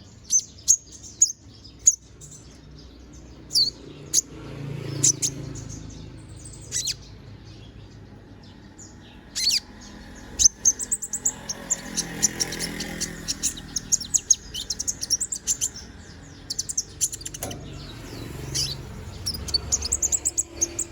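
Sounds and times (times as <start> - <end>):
sunbird high chirping song: 0.0 - 20.9.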